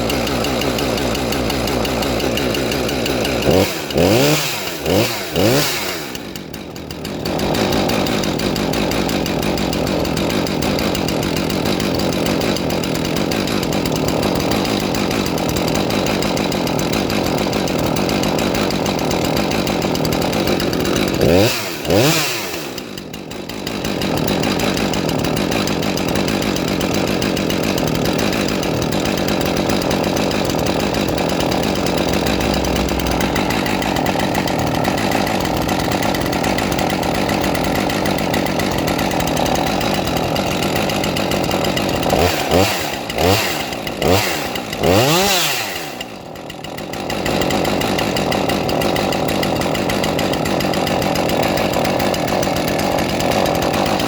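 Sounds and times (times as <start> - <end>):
chainsaw idling: 0.0 - 54.0
chainsaw revving: 0.0 - 54.0.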